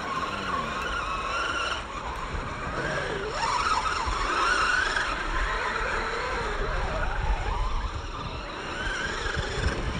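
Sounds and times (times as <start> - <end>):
electric toy car motor whining: 0.0 - 9.9.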